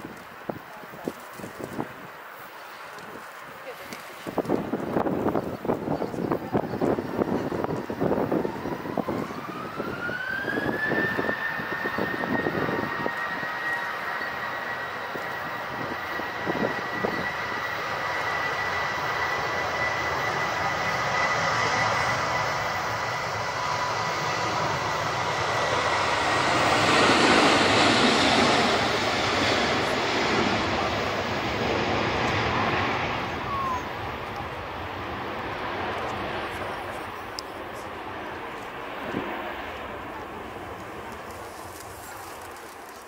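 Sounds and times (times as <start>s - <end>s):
jet engine rush: 0.0s - 43.0s
jet turbine whine: 0.0s - 43.0s.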